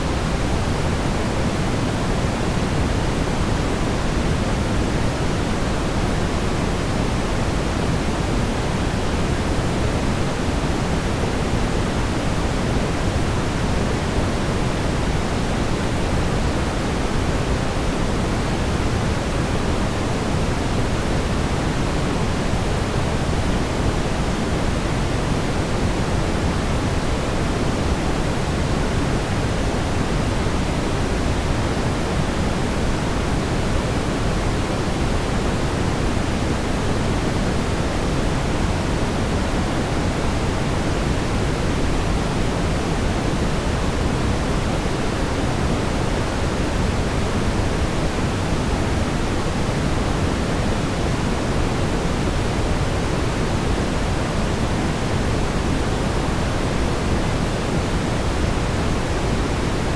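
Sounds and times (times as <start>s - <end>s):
brown noise hiss and rumble: 0.0s - 59.9s.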